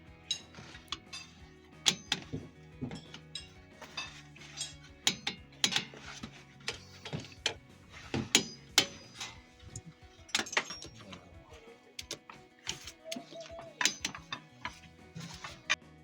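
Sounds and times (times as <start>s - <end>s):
metallic clinks of hand tools: 0.0s - 15.8s
background music: 0.0s - 16.0s.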